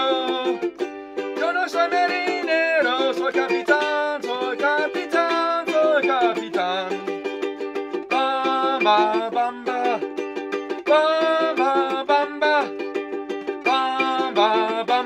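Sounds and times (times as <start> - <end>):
man singing: 0.0 - 15.0
ukulele strumming: 0.0 - 15.0.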